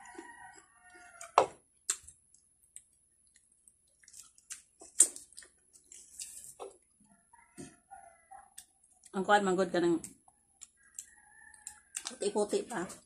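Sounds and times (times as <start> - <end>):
chewing juicy fruit: 0.0 - 9.2, 10.0 - 12.2.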